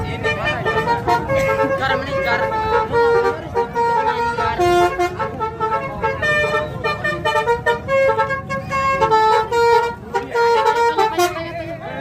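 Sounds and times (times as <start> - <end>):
bus multi-tone horn melody: 0.0 - 12.0.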